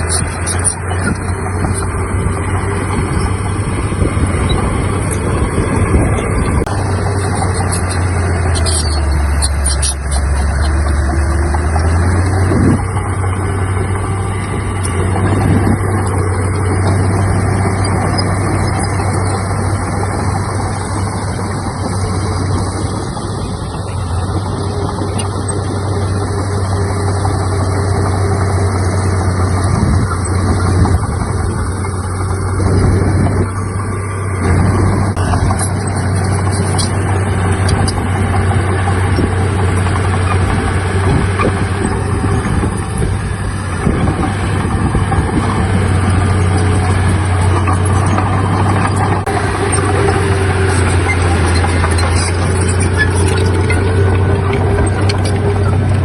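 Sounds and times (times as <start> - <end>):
heavy diesel machinery engine hum: 0.0 - 56.0.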